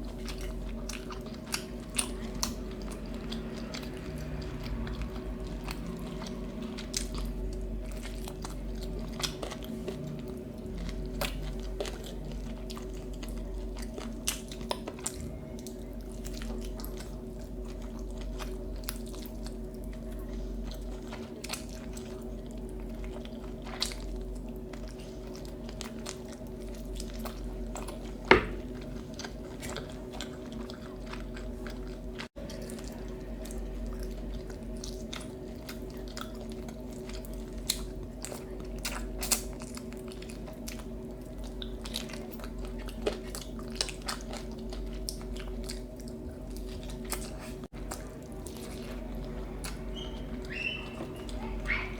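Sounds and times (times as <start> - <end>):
food crunching: 0.0 - 51.9
person chewing food: 0.0 - 51.9.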